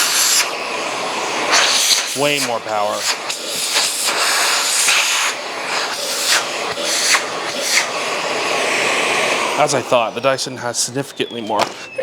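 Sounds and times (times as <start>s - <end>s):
upright vacuum running: 0.0s - 12.0s.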